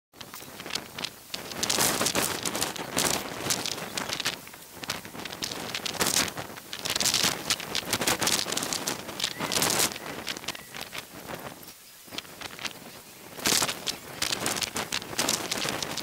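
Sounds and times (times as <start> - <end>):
sped-up shoreline crackling hiss: 0.2 - 16.0.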